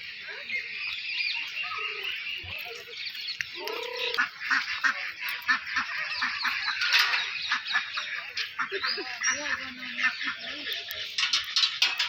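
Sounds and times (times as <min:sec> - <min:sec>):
birds chirping: 0:00.0 - 0:12.0
ducks or geese honking: 0:01.4 - 0:12.0.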